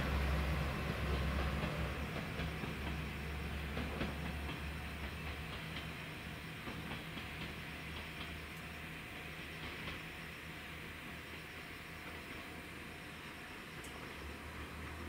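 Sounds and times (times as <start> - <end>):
diesel train rumble: 0.0 - 15.0
night insects chirping: 0.1 - 15.0.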